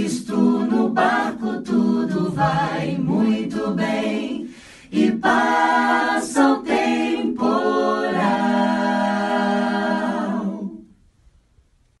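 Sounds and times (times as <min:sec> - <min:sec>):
group singing a hymn a cappella: 0:00.0 - 0:11.0.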